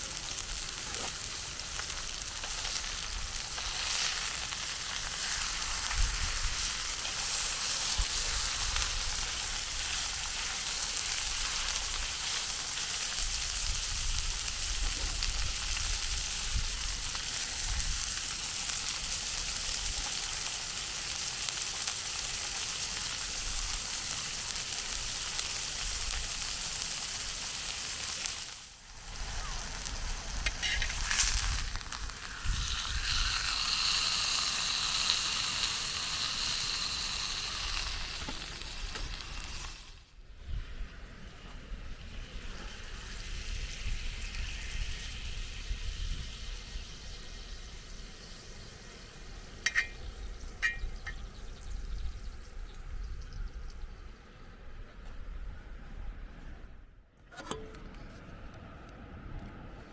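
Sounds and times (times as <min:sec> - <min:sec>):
food sizzling in a pan: 0:00.0 - 0:40.1, 0:42.1 - 0:51.3.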